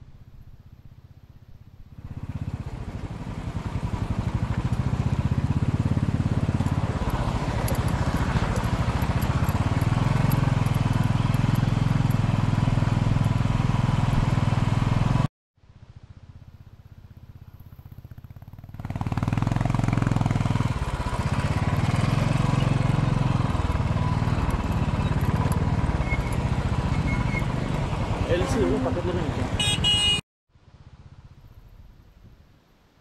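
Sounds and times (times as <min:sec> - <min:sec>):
motorcycle engine running: 0:00.0 - 0:30.2
wind and road noise: 0:00.0 - 0:33.0.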